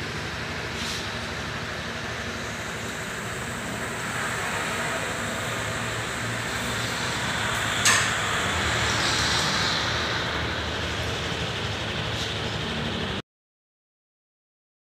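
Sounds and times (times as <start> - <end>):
scooter engine idling: 0.0 - 13.2.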